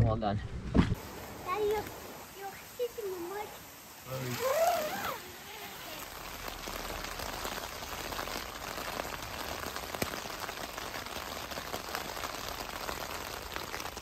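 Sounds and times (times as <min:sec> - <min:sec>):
raindrop taps: 0:00.8 - 0:04.9, 0:06.0 - 0:14.0
rain hissing on tent: 0:00.9 - 0:14.0.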